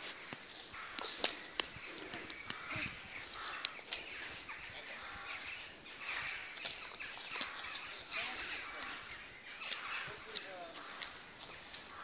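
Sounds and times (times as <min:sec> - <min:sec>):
birds calling: 0:00.0 - 0:12.0
footsteps on dirt path: 0:00.0 - 0:12.0.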